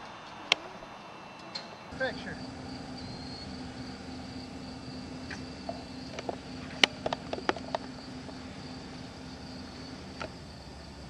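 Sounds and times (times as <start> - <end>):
low steady hum: 0.0 - 11.0
high insect trill: 1.9 - 11.0.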